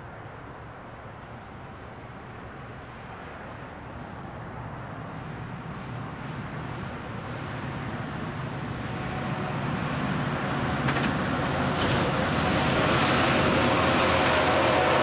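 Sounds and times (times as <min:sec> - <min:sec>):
diesel locomotive engines droning: 0:00.0 - 0:15.0.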